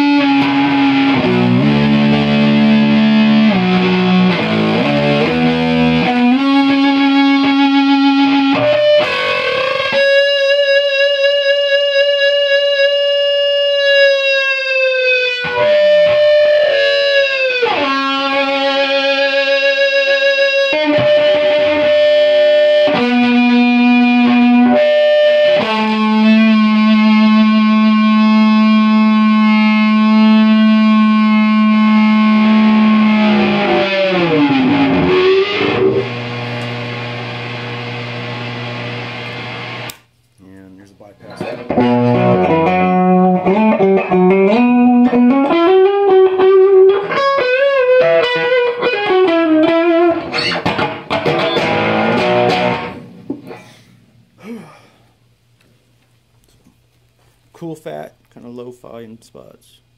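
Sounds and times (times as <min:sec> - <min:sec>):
fuzzy electric guitar notes: 0:00.0 - 0:40.0, 0:41.0 - 0:54.7.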